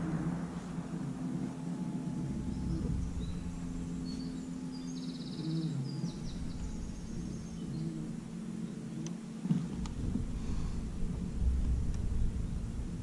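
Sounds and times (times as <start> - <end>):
songbird chirping and trilling: 0.0 - 13.0
steady low hum: 0.0 - 13.0.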